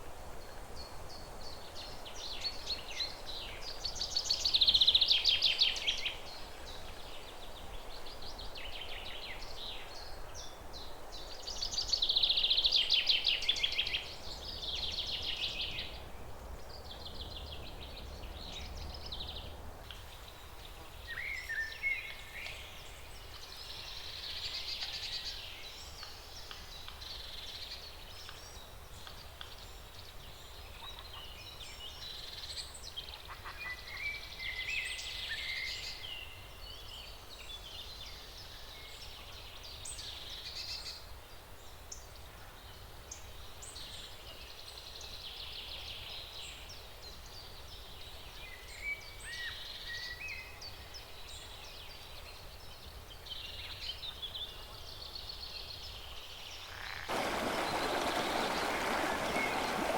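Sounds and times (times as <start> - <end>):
wind in the leaves: 0.0 - 33.1, 34.0 - 59.9
songbirds singing and trilling: 0.4 - 41.1, 41.9 - 59.9.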